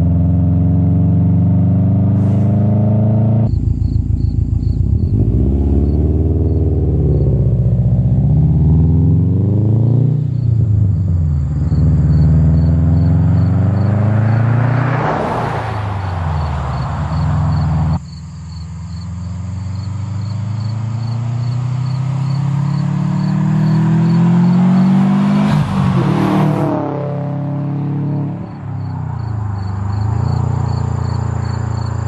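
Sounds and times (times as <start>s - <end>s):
car exhaust drive-by: 1.8s - 32.0s.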